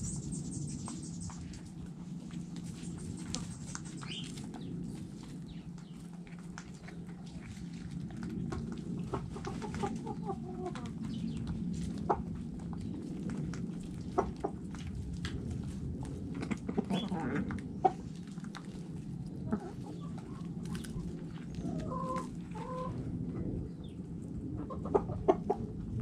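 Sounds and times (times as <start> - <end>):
hens clucking: 0.0 - 26.0
steady low rumble: 0.0 - 26.0.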